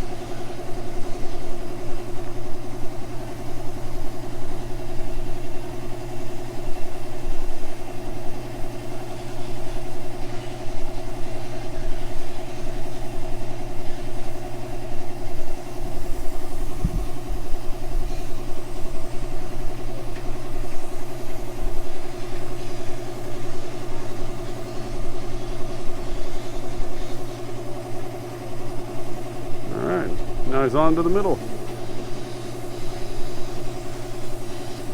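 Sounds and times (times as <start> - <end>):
air compressor droning hum: 0.0 - 34.9.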